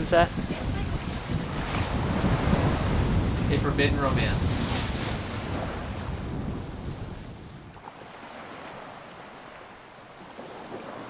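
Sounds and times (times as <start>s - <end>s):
sea water rushing past boat: 0.0s - 11.0s
wind buffeting microphone: 0.0s - 11.0s.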